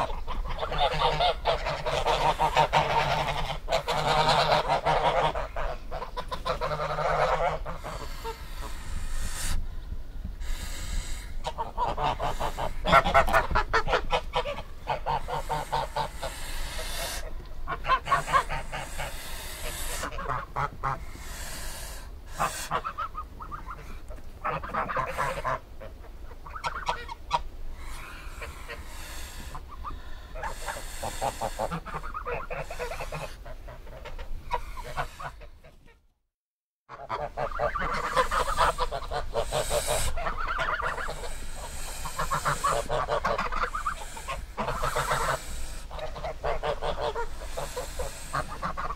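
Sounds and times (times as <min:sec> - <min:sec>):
geese honking: 0:00.0 - 0:09.6, 0:10.4 - 0:35.8, 0:36.9 - 0:48.9.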